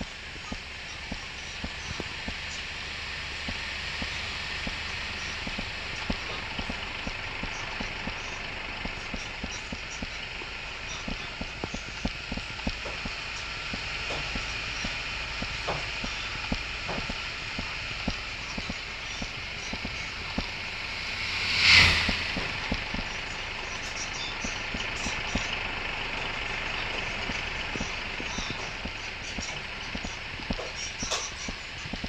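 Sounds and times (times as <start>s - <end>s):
steady high hiss: 0.0s - 32.0s
vehicle passing by: 2.2s - 31.6s.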